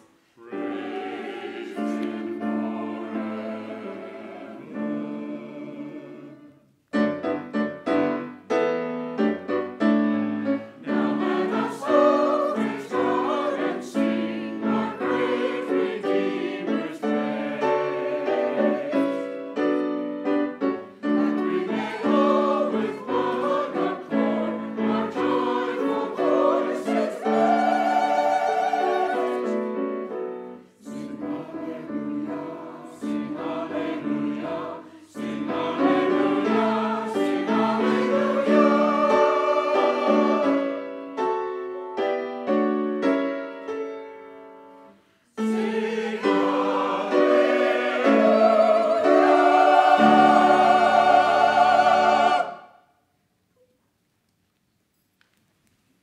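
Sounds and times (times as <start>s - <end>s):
church choir singing: 0.0s - 9.2s, 9.9s - 53.0s
piano accompaniment: 6.9s - 52.6s.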